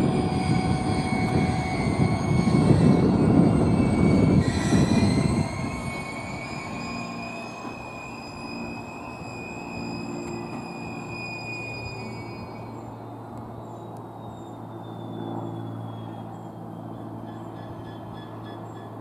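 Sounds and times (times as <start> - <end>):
short rising whine: 0.0 - 17.0
heavy train rumble: 0.0 - 19.0
high-pitched whining tones: 0.0 - 19.0.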